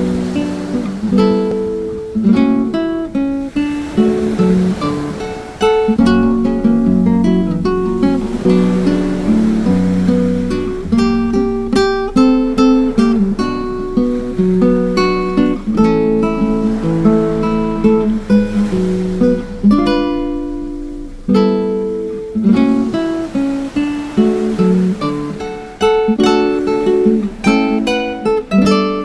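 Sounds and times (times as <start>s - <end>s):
acoustic guitar plucking: 0.0s - 29.0s.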